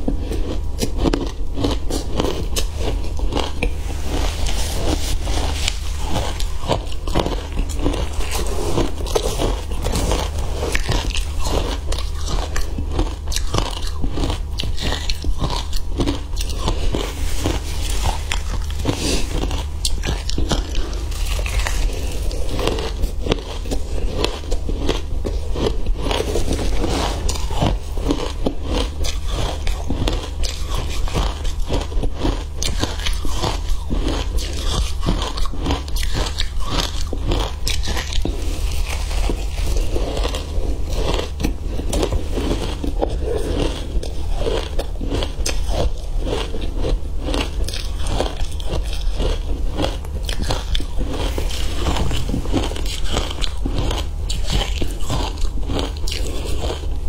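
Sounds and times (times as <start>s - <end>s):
crunching ice: 0.0s - 57.0s
steady low hum: 0.0s - 57.0s.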